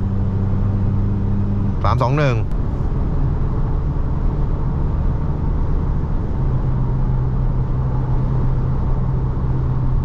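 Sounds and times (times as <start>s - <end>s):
car cabin engine and road drone: 0.0s - 10.0s.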